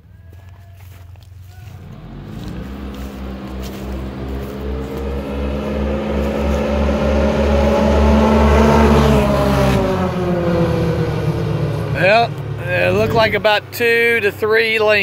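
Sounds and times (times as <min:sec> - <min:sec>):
off-road vehicle engines accelerating: 0:00.0 - 0:15.0.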